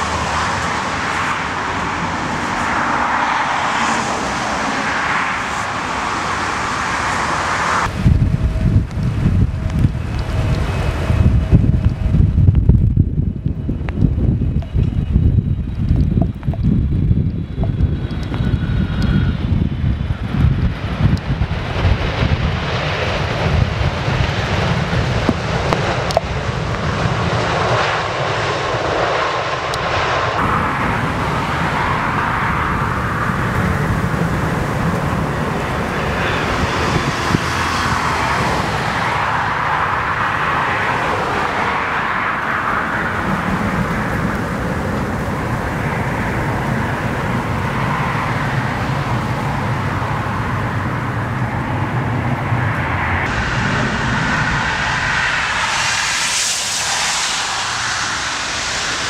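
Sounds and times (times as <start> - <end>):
jet engine rush: 0.0 - 59.0
jet engines in reverse thrust: 0.0 - 59.0.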